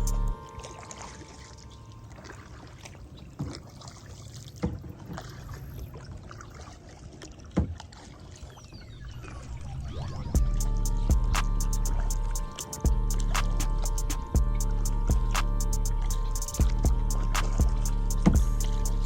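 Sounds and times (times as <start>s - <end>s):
water noise: 0.0s - 19.0s
wind: 0.0s - 19.0s.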